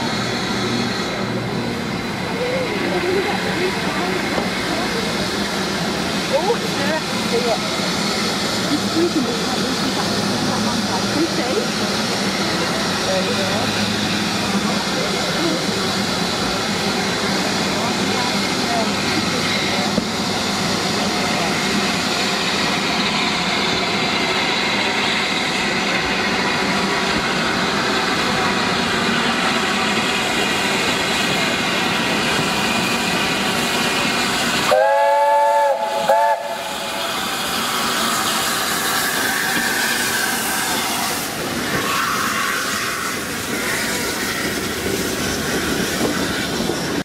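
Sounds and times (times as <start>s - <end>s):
steam locomotive hissing: 0.0s - 47.0s.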